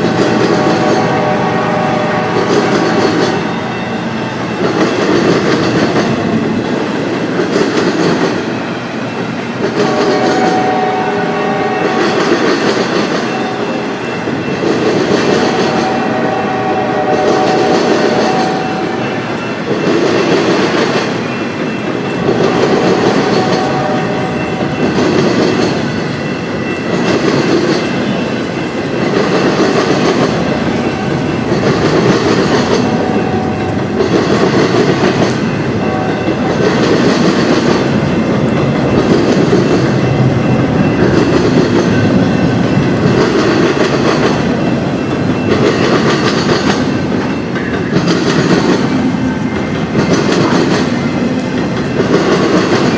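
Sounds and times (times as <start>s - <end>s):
train wheels clacking over rail joints: 0.0s - 52.9s.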